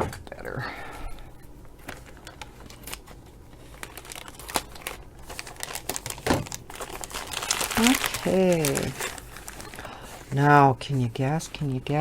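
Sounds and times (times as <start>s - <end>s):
packaging crinkling: 1.6s - 12.0s.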